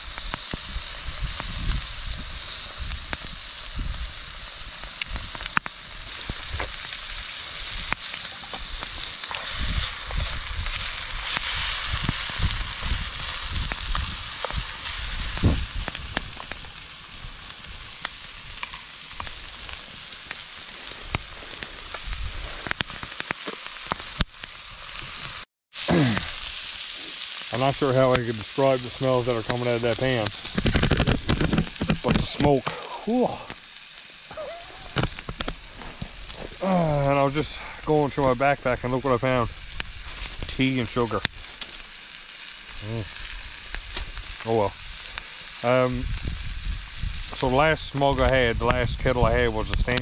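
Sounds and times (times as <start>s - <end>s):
food sizzling and popping in pan: 0.0s - 50.0s.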